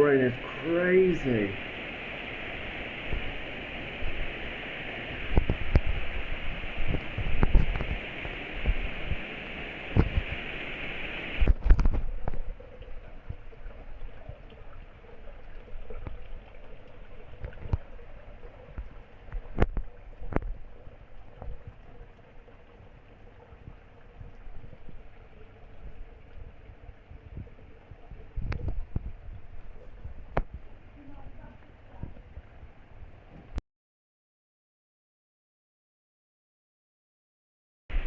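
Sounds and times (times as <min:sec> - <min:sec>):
torrential rain pouring: 0:00.0 - 0:33.6.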